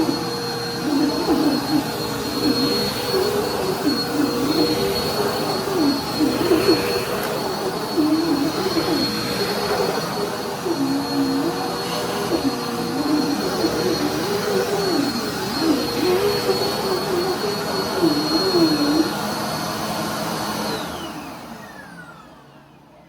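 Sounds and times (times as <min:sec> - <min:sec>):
vacuum cleaner motor whine: 0:00.0 - 0:23.0.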